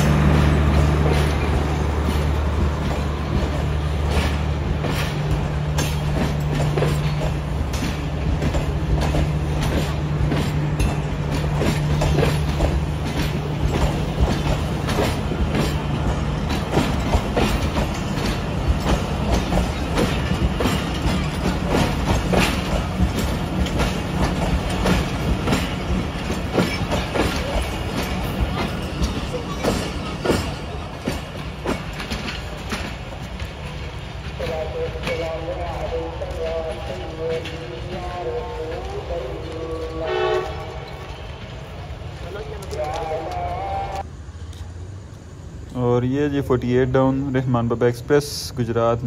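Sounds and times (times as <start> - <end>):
wheels clicking over rail joints: 0.0 - 45.8
train rumble: 0.0 - 49.0.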